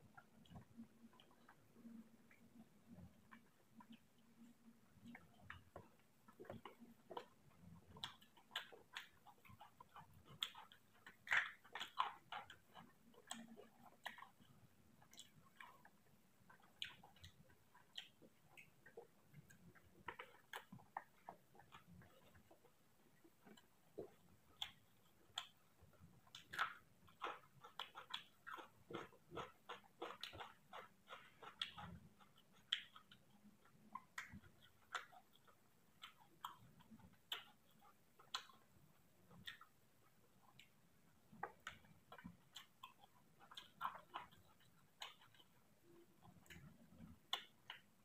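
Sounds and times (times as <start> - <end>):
person chewing food: 0.0 - 48.0
fingers mixing rice on plate: 0.1 - 48.0.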